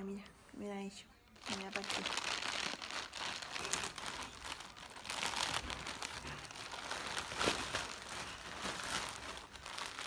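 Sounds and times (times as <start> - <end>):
plastic bag crinkling: 1.4 - 10.0.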